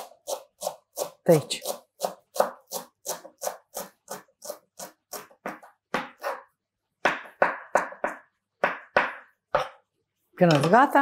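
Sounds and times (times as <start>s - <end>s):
knife chopping on cutting board: 0.0s - 9.8s.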